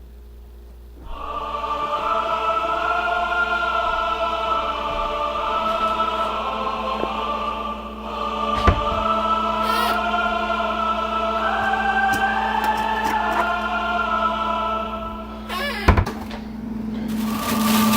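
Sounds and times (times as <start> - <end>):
choir singing sustained chords: 1.0 - 17.9.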